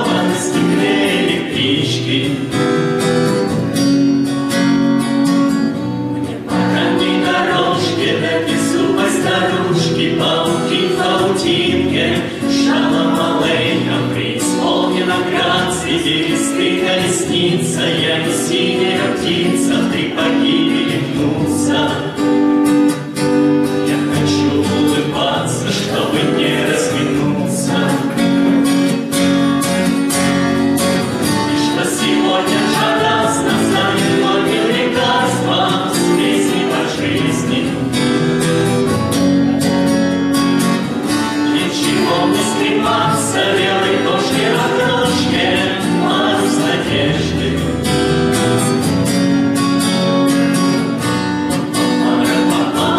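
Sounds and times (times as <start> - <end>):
group singing together: 0.0 - 3.6, 6.2 - 29.1, 31.0 - 38.9, 40.8 - 48.9, 51.5 - 52.9
strummed acoustic guitar: 0.0 - 52.9.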